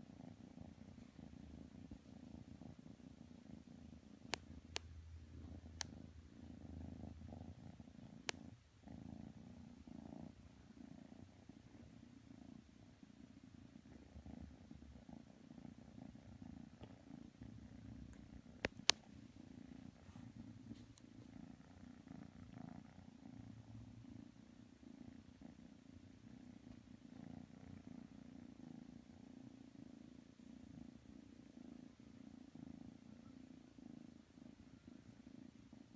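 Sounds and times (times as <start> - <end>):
kitten purring: 0.0 - 35.9.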